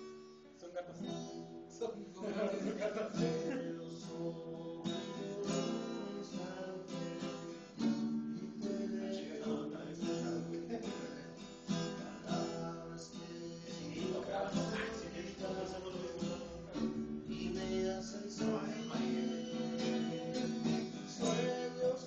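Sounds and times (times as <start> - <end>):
acoustic guitar strummed chords: 0.0 - 22.0.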